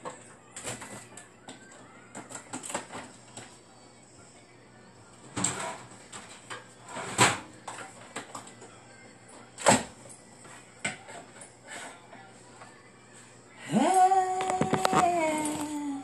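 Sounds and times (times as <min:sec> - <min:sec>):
faint music: 0:00.0 - 0:16.0.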